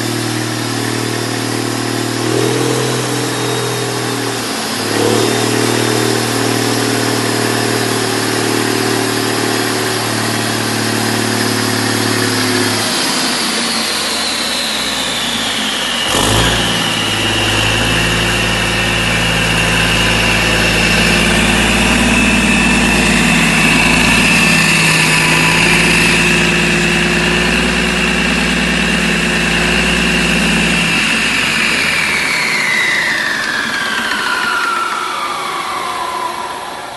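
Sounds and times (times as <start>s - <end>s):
diesel engine running: 0.0s - 36.8s
high whine falling in pitch: 0.0s - 36.9s.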